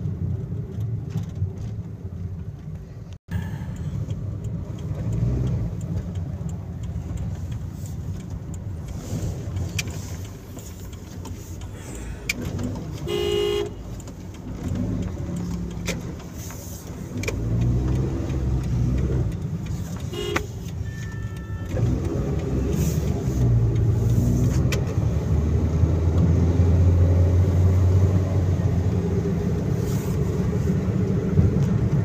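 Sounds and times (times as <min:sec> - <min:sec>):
car engine and tyre noise: 0:00.0 - 0:32.0.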